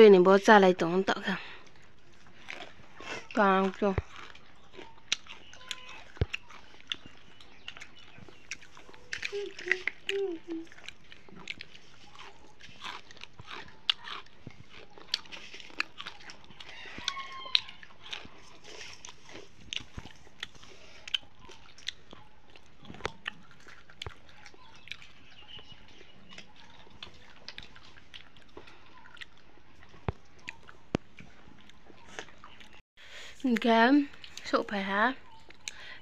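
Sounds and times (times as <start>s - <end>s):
chewing crunchy snack: 1.3s - 36.0s.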